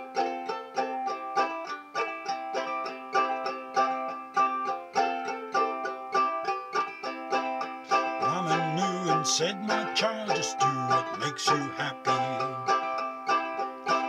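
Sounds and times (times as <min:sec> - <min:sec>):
banjo ukulele strumming: 0:00.0 - 0:14.0.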